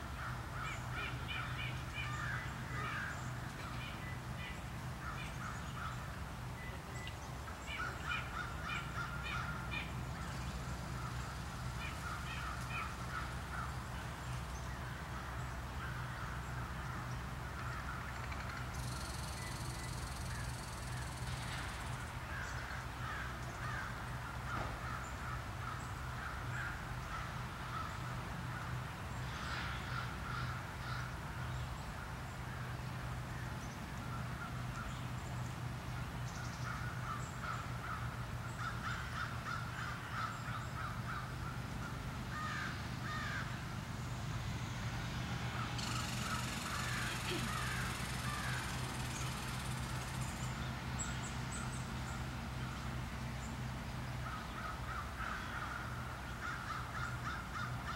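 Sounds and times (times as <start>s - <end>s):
birds calling: 0.0s - 44.5s, 45.5s - 57.9s
steady low hum: 0.0s - 57.9s.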